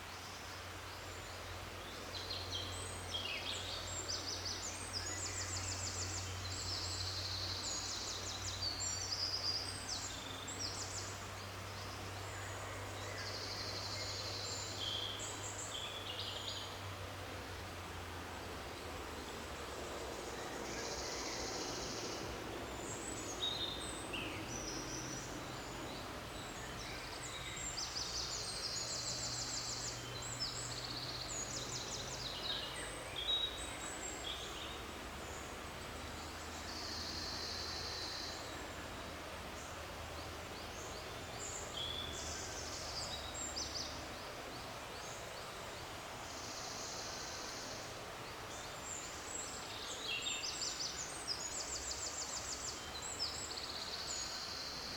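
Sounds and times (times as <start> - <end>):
songbirds chirping: 0.0 - 54.9
steady background hiss: 0.0 - 54.9.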